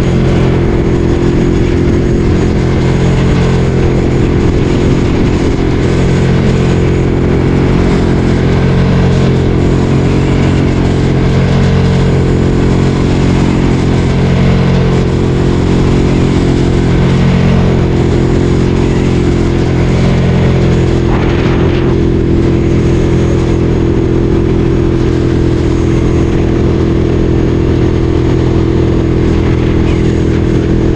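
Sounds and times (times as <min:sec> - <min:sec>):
motorcycle engine running: 0:00.0 - 0:30.9
wind and road noise: 0:00.0 - 0:30.9.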